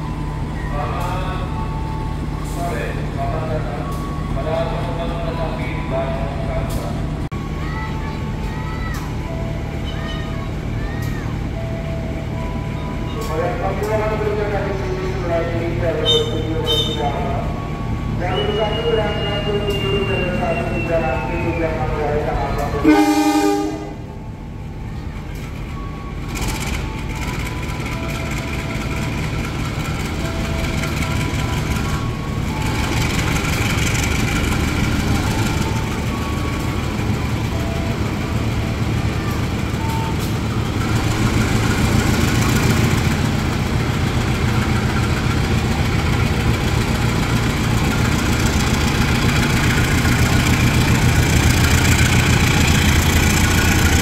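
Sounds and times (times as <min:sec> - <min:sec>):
locomotive engine idling: 0:00.0 - 0:54.0.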